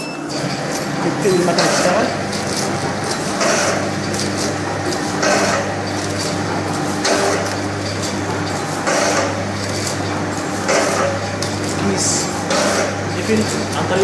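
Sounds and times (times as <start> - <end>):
machine clacking: 0.0 - 14.0
packing machine motor hum: 0.0 - 14.0.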